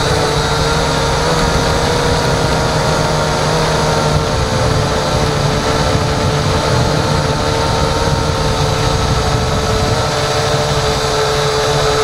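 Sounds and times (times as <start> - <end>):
small aircraft propeller whine: 0.0 - 12.0
wind buffeting microphone: 0.0 - 12.0.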